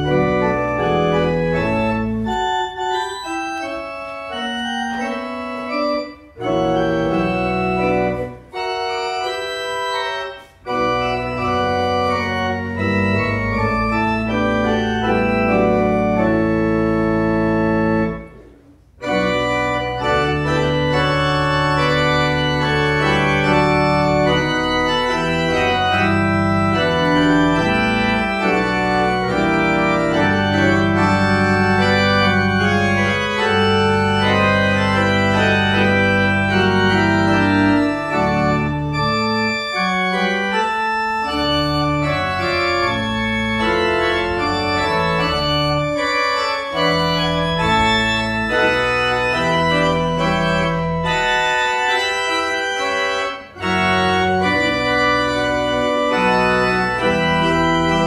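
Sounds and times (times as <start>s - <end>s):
organ playing held chords: 0.0s - 58.0s.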